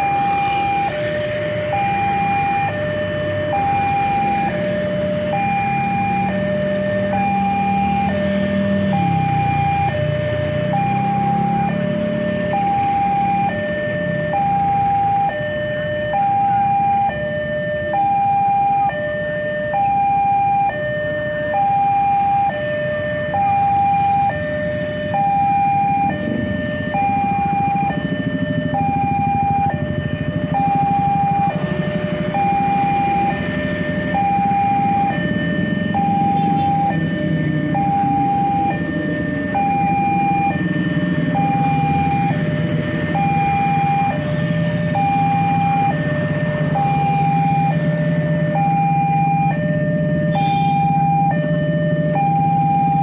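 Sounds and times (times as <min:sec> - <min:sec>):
crossing alarm two-tone signal: 0:00.0 - 0:53.0
motorcycles and cars rumbling: 0:00.0 - 0:53.0.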